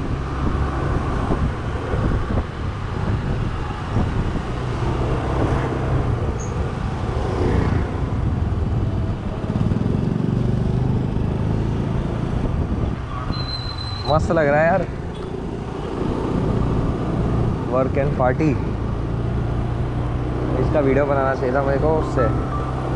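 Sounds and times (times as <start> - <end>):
wind and road rush: 0.0 - 22.9.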